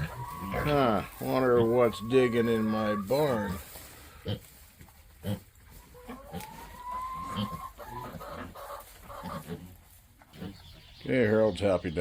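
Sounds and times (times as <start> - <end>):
pigs grunting while eating: 0.0 - 11.4.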